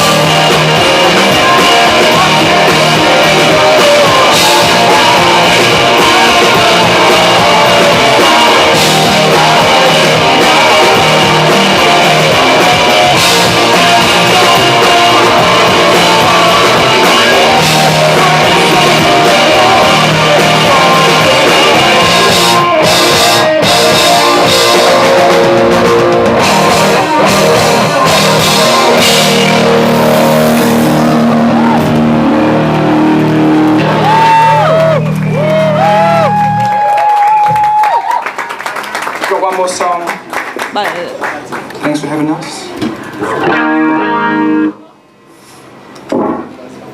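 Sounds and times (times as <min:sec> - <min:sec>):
guitar ringing low notes: 0:00.0 - 0:36.1, 0:43.3 - 0:44.9
rock band playing: 0:00.0 - 0:38.0, 0:42.7 - 0:44.9.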